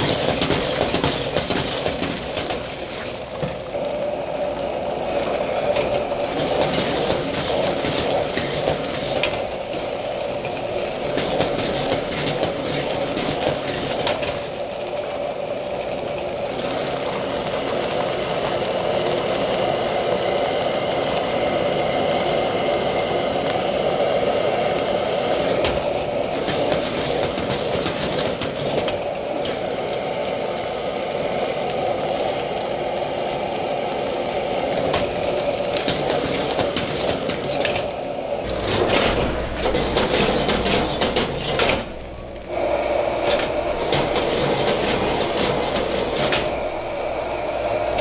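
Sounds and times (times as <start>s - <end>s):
food sizzling in oil: 0.0s - 48.0s
gas burner flame rushing: 0.0s - 48.0s.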